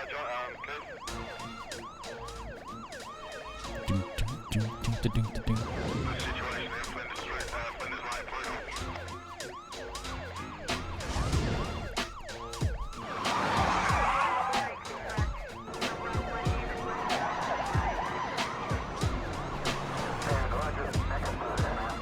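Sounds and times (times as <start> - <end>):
siren wailing: 0.0 - 22.0
drum and bass beat: 1.0 - 22.0
dense noisy passage: 3.6 - 22.0.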